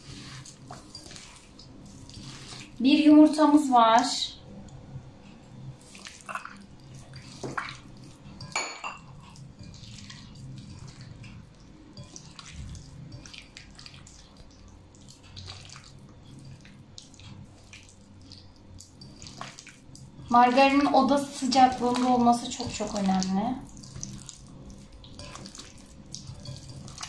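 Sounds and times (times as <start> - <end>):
wet squishing by hand: 0.0 - 3.0, 5.4 - 27.0.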